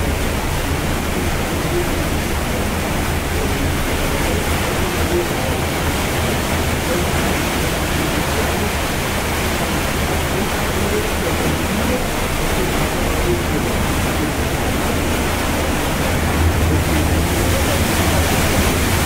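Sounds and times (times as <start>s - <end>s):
churning water: 0.0s - 19.0s
low engine drone: 0.0s - 19.0s.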